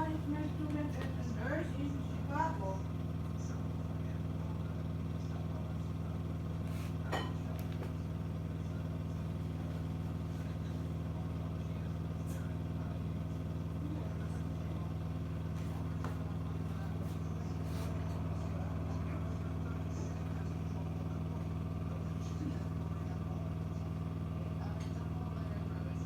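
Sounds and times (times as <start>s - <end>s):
dishwasher humming: 0.0s - 26.0s.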